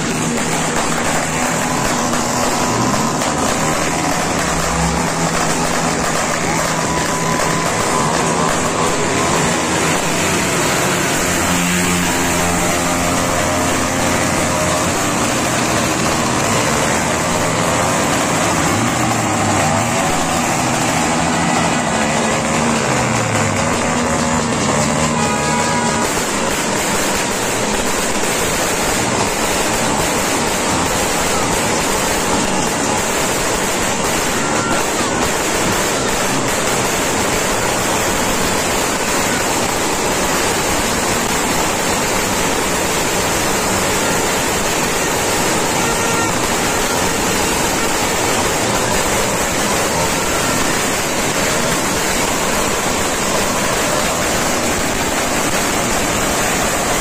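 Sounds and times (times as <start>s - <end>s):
firecrackers and fireworks barrage: 0.0s - 57.0s.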